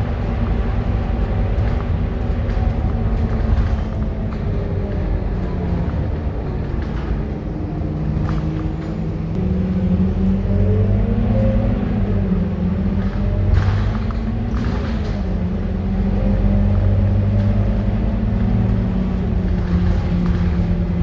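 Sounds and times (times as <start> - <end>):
light rattles and clicks: 0.0 - 9.4, 10.2 - 21.0
bus diesel engine accelerating: 0.0 - 21.0.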